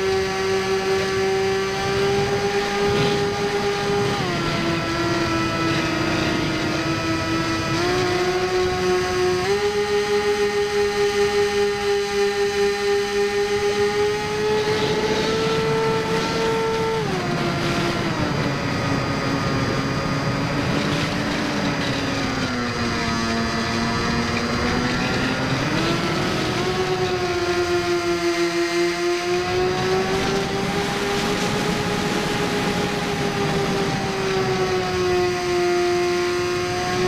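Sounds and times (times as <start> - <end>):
electric motor whine: 0.0 - 37.0.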